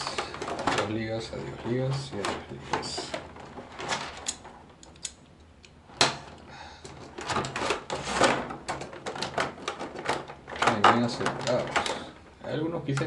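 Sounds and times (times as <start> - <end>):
plastic tray crackling: 0.0 - 4.8, 5.9 - 13.0.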